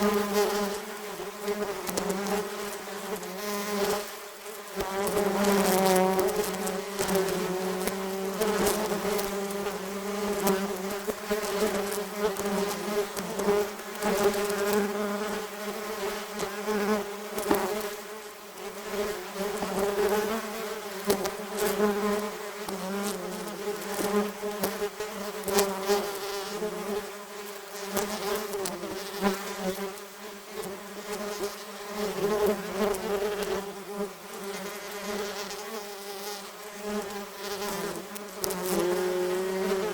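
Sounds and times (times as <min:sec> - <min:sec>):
wasps buzzing: 0:00.0 - 0:39.9.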